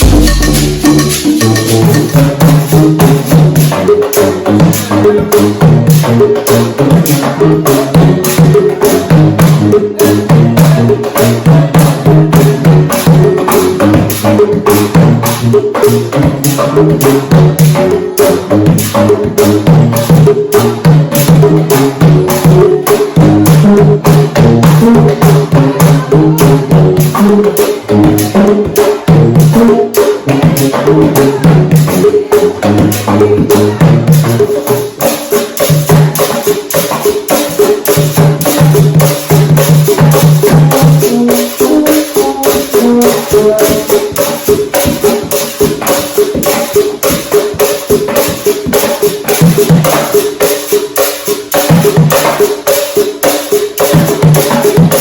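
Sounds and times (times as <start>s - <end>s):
hand-drum and percussion music: 0.0s - 55.0s.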